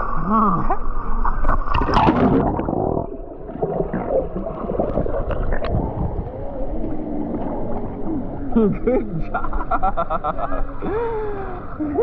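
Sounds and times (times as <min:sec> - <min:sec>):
muffled churning water: 0:00.0 - 0:12.0.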